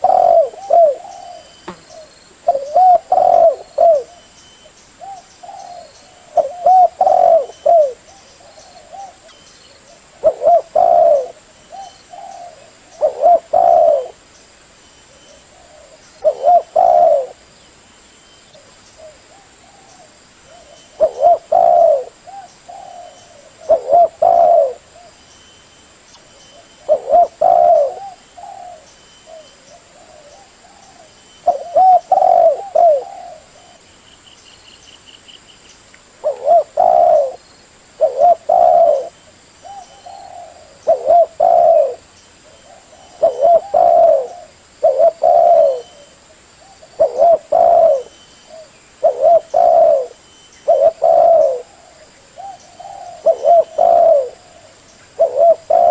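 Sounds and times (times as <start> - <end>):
dove cooing: 0.0 - 4.2, 5.0 - 14.2, 15.1 - 17.4, 18.6 - 25.2, 26.5 - 33.8, 36.2 - 37.4, 38.0 - 55.9.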